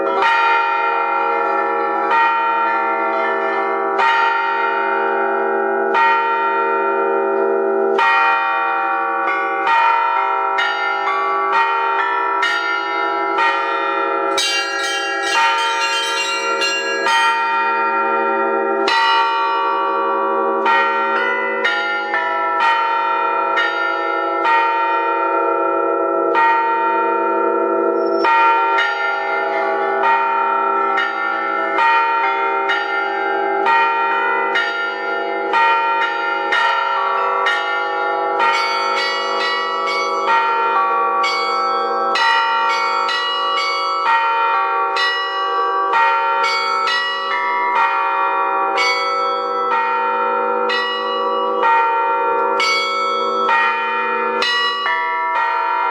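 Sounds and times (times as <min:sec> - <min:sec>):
bells struck in fast sequence: 0:00.0 - 0:55.9.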